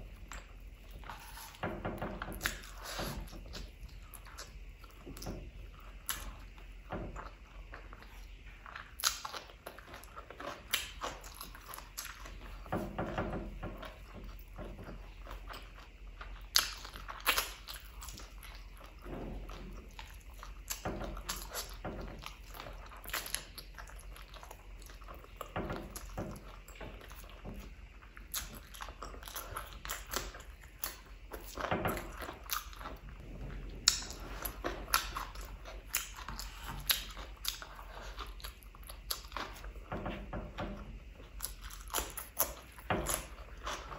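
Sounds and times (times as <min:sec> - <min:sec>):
chewing and lip-smacking: 0:02.2 - 0:33.2, 0:33.8 - 0:43.9.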